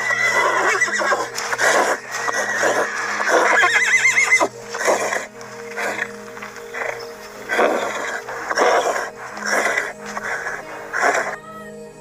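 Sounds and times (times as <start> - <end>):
horse snorting: 0.0 - 11.4
horse whinnying: 0.0 - 11.4.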